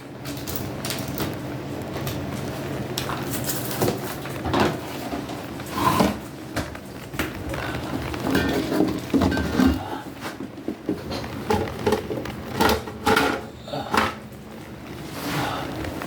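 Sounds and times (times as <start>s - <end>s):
household objects clattering: 3.0s - 16.0s.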